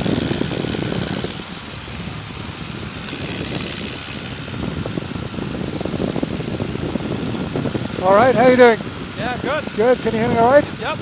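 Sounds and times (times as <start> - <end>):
biplane engine and propeller: 0.0 - 11.0
wind rushing over microphone: 0.0 - 11.0.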